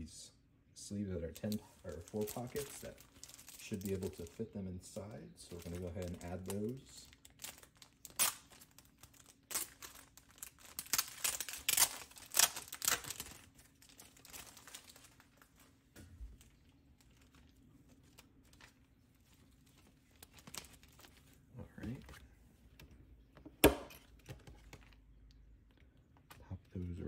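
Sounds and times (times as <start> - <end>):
plastic sleeve pages crinkling: 1.2 - 23.0, 23.8 - 26.9.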